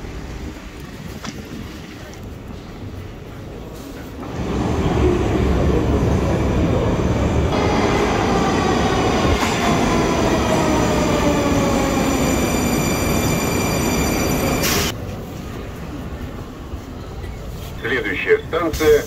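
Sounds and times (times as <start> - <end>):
train wheels rumbling on rails: 0.0 - 17.7.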